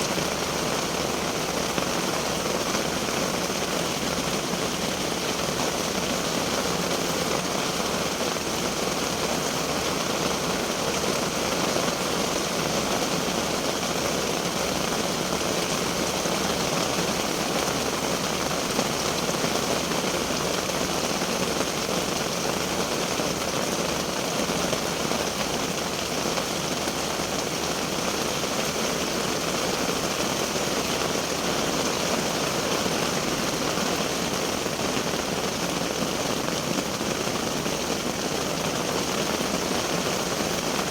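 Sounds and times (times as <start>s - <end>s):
rain falling on a tent: 0.0s - 40.9s.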